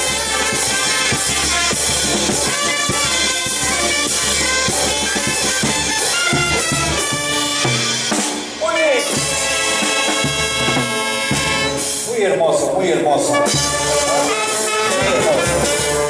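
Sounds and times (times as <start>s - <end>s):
drum kit beat: 0.0s - 12.1s, 13.3s - 16.0s
trumpets and brass playing: 0.0s - 12.2s, 13.2s - 16.0s.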